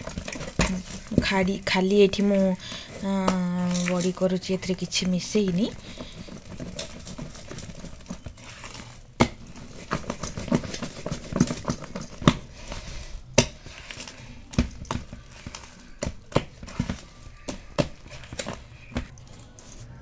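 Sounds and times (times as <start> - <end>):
hand slapping batter in steel bowl: 0.0 - 19.2.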